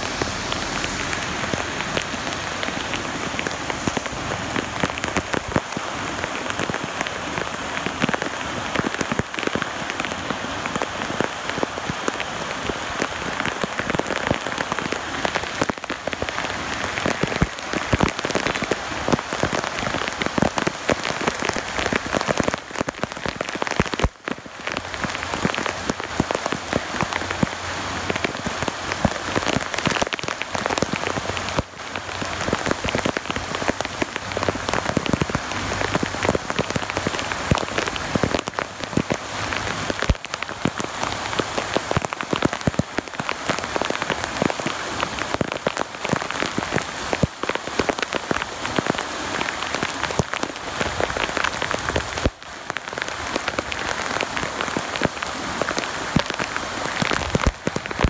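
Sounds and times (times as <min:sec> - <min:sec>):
heavy rain on standing water: 0:00.0 - 0:58.0.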